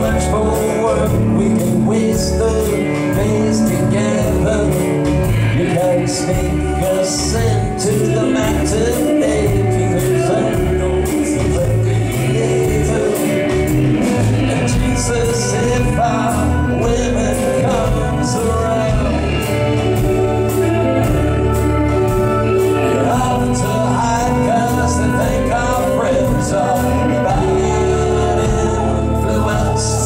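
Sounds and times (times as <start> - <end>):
live band playing: 0.0 - 30.0
man singing into microphone: 0.0 - 30.0.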